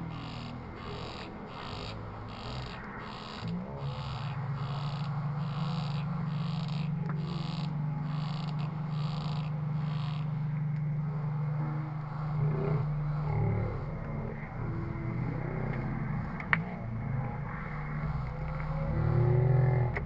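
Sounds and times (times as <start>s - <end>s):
crickets chirping: 0.0s - 20.0s
steady low hum: 0.0s - 20.0s.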